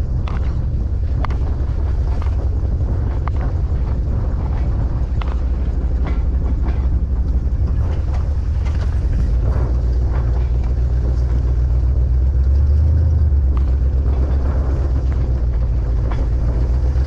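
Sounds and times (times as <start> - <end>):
knocks and rattles: 0.0 - 17.0
vehicle driving rumble: 0.0 - 17.0.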